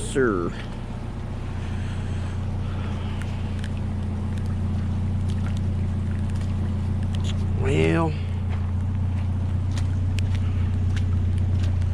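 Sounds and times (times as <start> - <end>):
vehicle engine drone from inside: 0.0 - 11.9.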